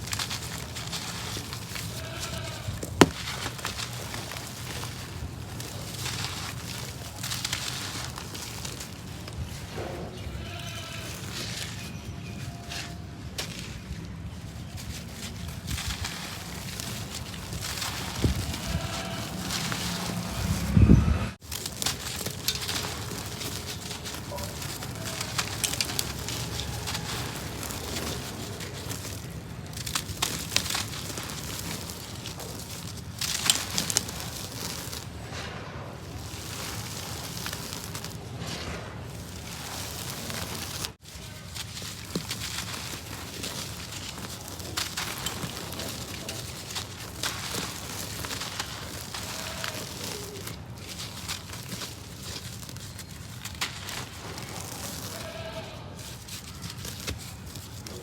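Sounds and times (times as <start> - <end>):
dry cement crumbling and crunching: 0.0 - 58.0
sharp crackles: 0.0 - 58.0.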